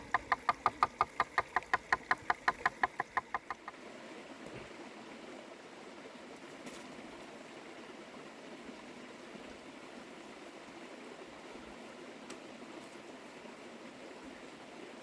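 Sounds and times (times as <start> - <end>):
soft outdoor hiss: 0.0 - 15.0.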